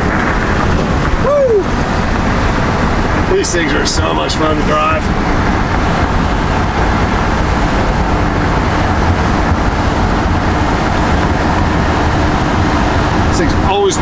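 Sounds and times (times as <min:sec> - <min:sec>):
car engine running: 0:00.0 - 0:14.0
tyre and road noise: 0:00.0 - 0:14.0.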